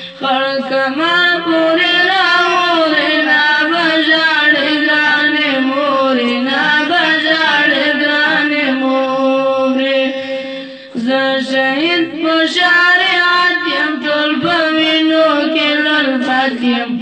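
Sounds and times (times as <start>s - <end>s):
boy singing unaccompanied: 0.0s - 17.0s.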